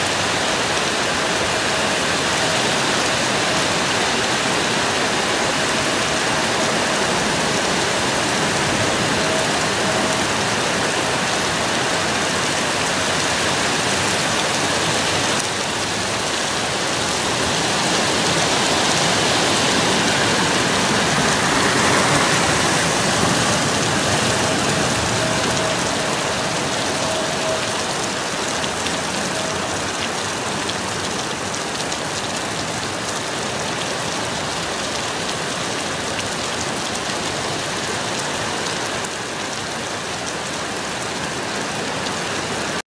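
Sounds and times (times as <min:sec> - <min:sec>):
rain on trees and foliage: 0:00.0 - 0:42.8.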